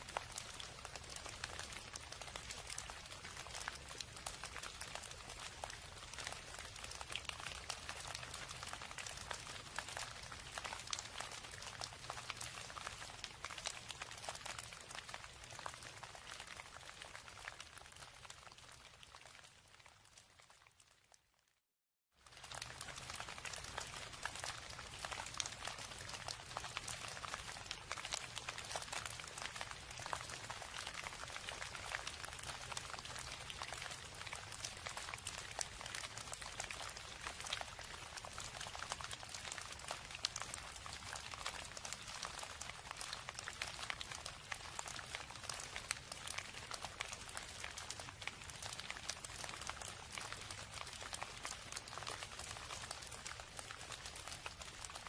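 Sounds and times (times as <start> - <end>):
rain drops hitting surface: 0.0 - 20.9, 22.2 - 55.0.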